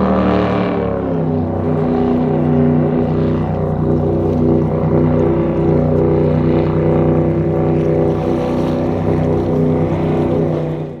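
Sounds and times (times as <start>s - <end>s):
powerboat engine drone: 0.0s - 11.0s.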